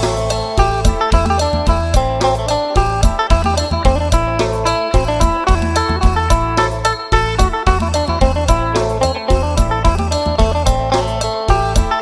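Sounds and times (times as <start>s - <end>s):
held bass: 0.0s - 12.0s
low drum beat: 0.0s - 12.0s
plucked lute melody: 0.0s - 12.0s.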